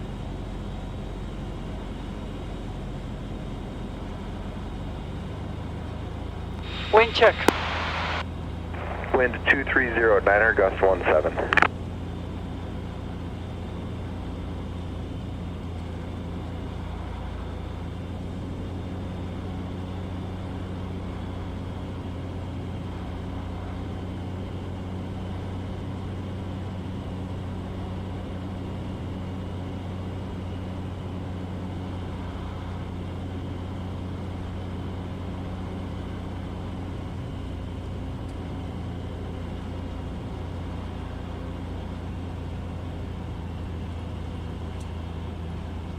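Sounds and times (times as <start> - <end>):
propeller plane engine droning: 0.0 - 45.9.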